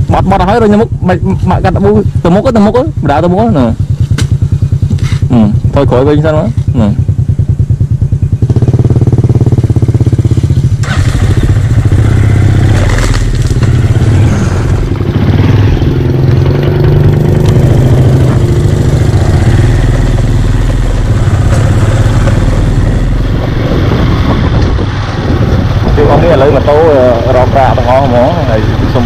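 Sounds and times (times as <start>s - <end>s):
motorcycle engine: 0.0s - 29.0s.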